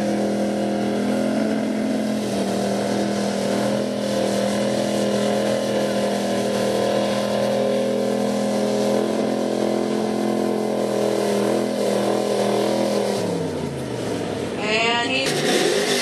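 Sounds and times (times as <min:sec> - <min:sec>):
pickup truck engine at high revs: 0:00.0 - 0:16.0.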